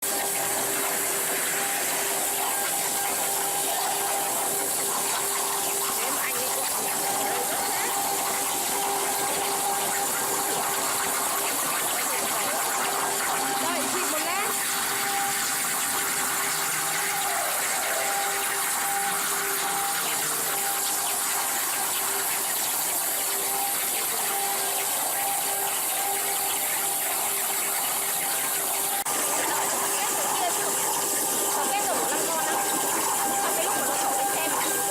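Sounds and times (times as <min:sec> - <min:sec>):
plasma cutter hissing: 0:00.1 - 0:34.9.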